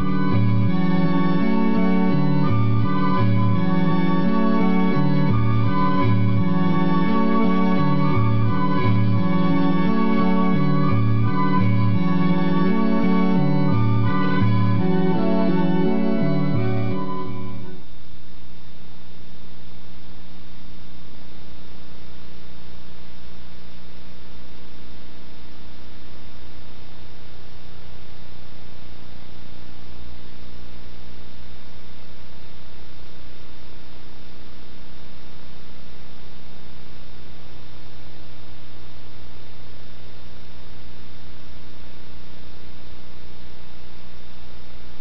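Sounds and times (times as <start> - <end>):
electrical mains hum: 0.0 - 45.0
faint high whine: 0.0 - 45.0
tape hiss: 0.0 - 45.0.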